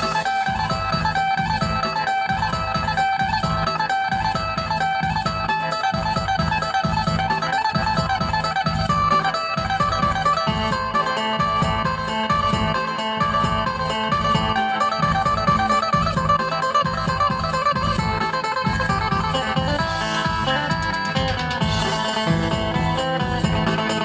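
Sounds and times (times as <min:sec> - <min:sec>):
plucked lute melody: 0:00.0 - 0:24.0
steady low beat: 0:00.0 - 0:24.0.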